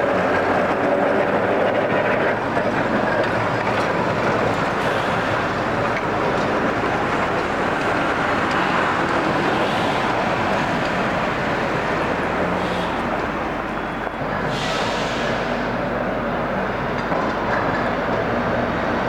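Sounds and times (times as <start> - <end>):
rail vehicle running: 0.0 - 19.0.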